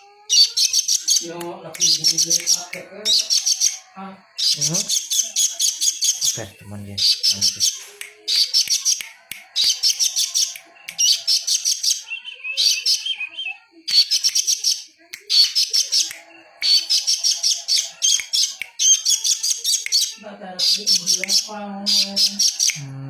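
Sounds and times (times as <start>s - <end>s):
songbird chattering: 0.0s - 22.8s.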